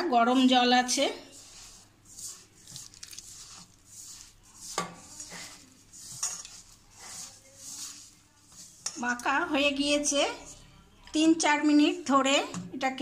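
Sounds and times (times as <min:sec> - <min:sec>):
dough scraping in metal bowl: 0:00.2 - 0:10.7.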